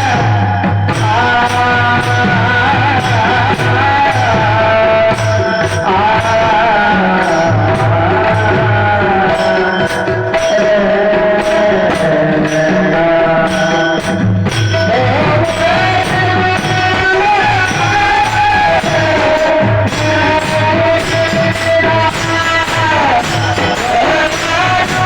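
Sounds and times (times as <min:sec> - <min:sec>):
percussion steady beat: 0:00.0 - 0:25.0
person singing devotional melody: 0:00.0 - 0:25.0.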